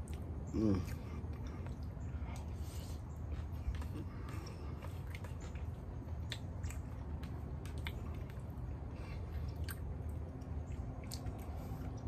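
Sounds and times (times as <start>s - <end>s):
person chewing food: 0.0s - 12.0s
steady low rumble: 0.0s - 12.0s.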